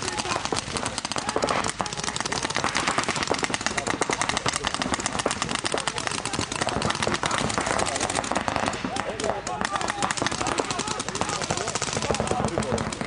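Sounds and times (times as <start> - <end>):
paintball guns popping: 0.0 - 13.0
players shouting: 0.0 - 13.0.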